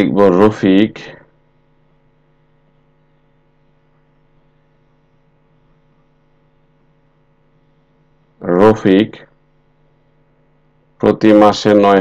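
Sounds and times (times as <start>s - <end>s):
faint mains hum: 0.0s - 12.0s.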